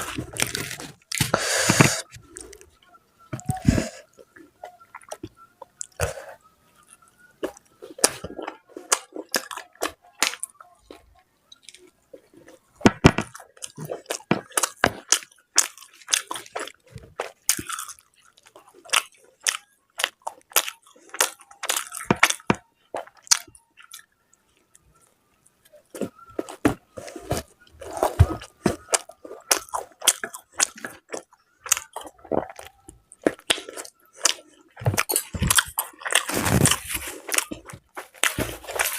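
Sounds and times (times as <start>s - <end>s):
crunchy bites: 0.0s - 2.7s, 4.9s - 11.0s, 12.8s - 24.1s, 25.9s - 38.9s
wet chewing and lip smacking: 3.5s - 12.6s, 13.3s - 24.1s, 27.4s - 38.9s.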